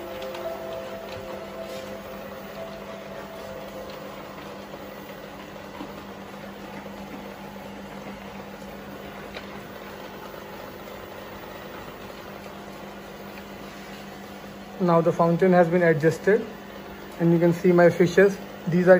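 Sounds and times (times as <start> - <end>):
aquarium equipment humming: 0.0 - 18.9.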